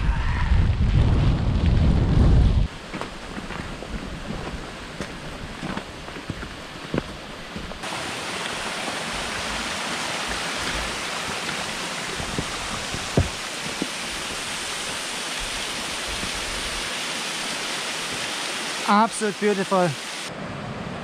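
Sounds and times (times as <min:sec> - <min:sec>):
waterfall rushing down rock: 0:03.2 - 0:20.3.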